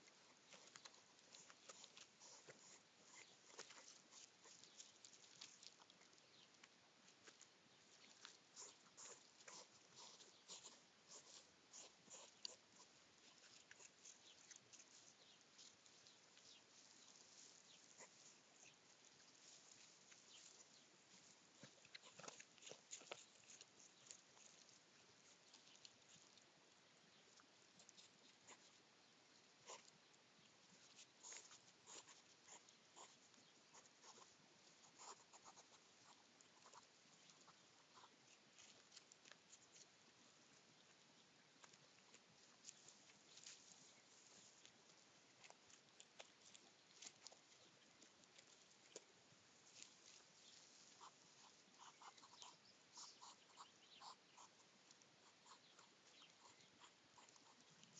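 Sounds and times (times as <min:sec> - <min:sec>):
hedgehogs snuffling: 0:00.0 - 0:57.9.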